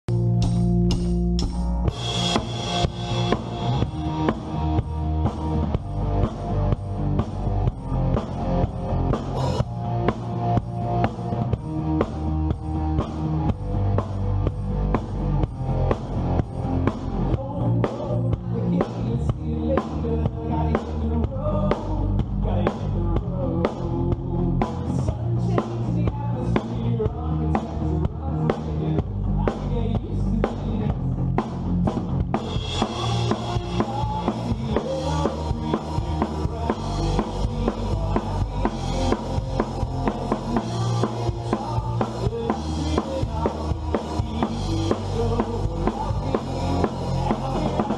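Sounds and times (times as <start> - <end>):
band playing upbeat song: 0.1 - 47.9
drum kit beat: 0.1 - 47.9.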